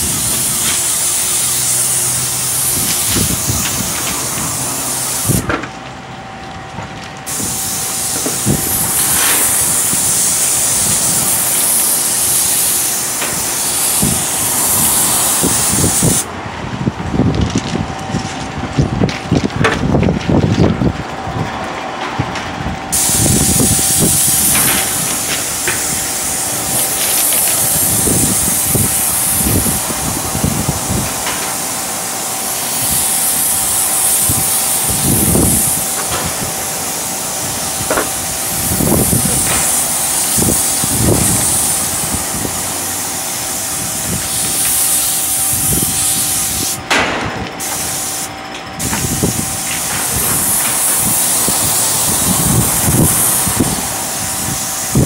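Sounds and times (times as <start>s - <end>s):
paint sprayer hissing: 0.0s - 5.6s, 7.2s - 16.3s, 22.9s - 55.0s.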